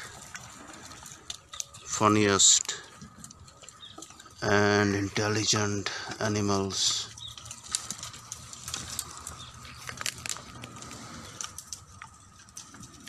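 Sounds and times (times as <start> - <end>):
twigs and leaves crackling: 0.0 - 13.0.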